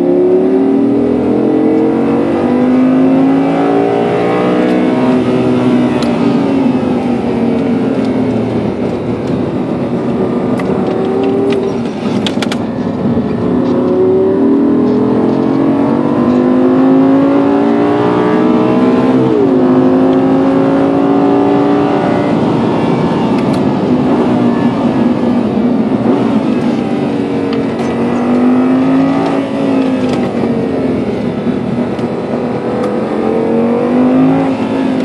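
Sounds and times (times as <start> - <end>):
car engine accelerating: 0.0 - 35.0.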